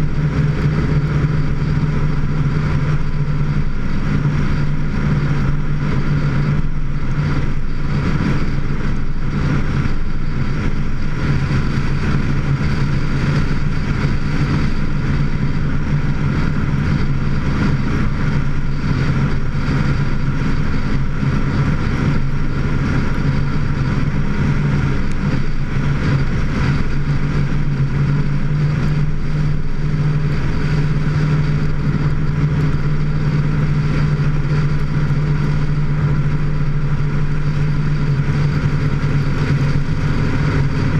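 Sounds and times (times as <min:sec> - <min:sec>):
road noise: 0:00.0 - 0:40.9
vehicle engine droning: 0:00.0 - 0:40.9
wind noise: 0:00.0 - 0:40.9.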